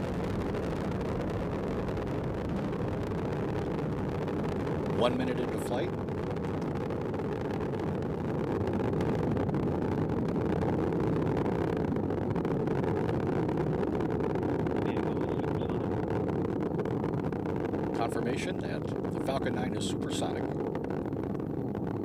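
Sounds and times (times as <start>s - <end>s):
rocket engines deep rumble: 0.0s - 22.0s.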